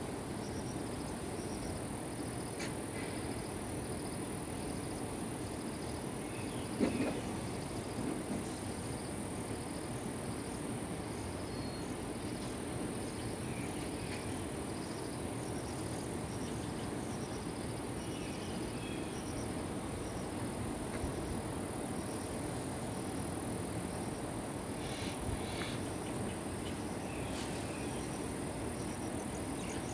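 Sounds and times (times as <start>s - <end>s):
insects droning: 0.0s - 29.9s.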